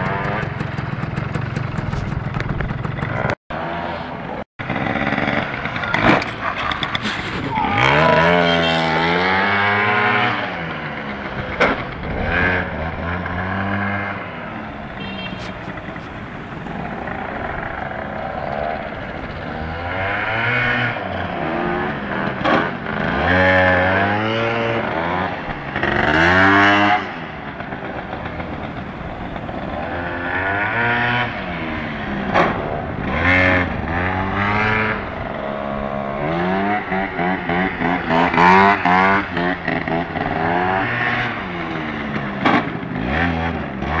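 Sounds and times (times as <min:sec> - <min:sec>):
scooter engine revving: 0:00.0 - 0:44.0.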